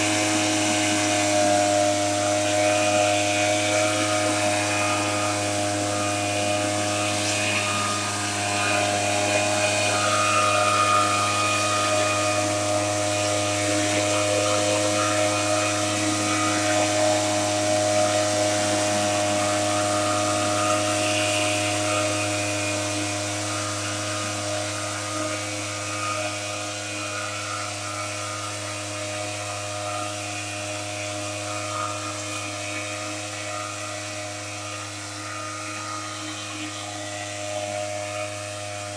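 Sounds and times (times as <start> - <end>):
mist blower engine running: 0.0 - 38.9.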